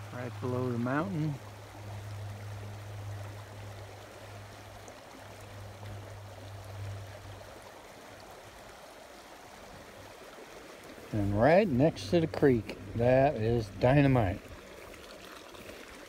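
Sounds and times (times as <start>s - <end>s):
creek running over rocks: 0.0s - 16.0s
low steady hum: 0.0s - 16.0s.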